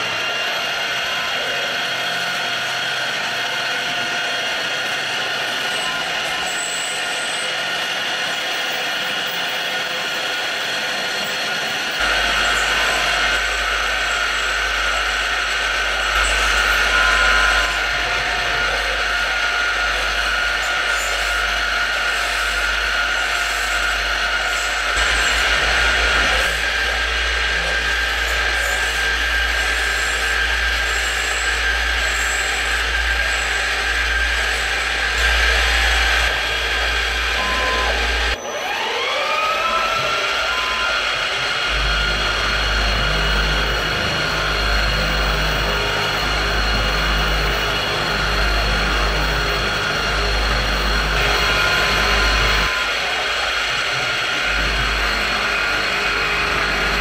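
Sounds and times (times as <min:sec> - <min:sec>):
milling cutter cutting metal: 0:00.0 - 0:57.0
milling machine spindle whining: 0:00.0 - 0:57.0.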